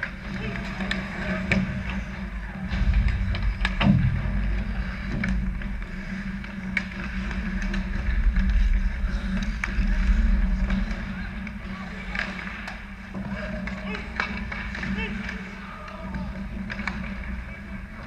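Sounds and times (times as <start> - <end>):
hockey sticks and puck clacking: 0.0 - 3.8, 4.4 - 18.0
low rumble: 0.0 - 14.8.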